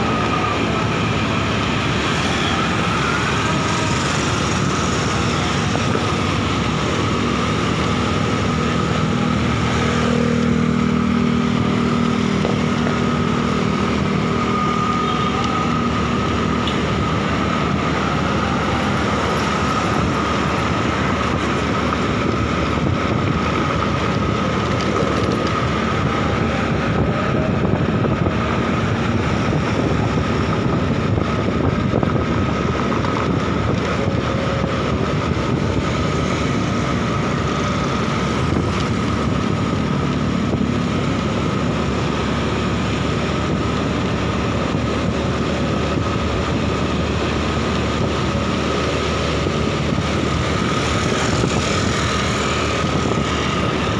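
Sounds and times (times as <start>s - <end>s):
motorcycle engine: 0.0s - 53.9s
road noise: 0.0s - 53.9s
wind rushing over microphone: 0.0s - 53.9s.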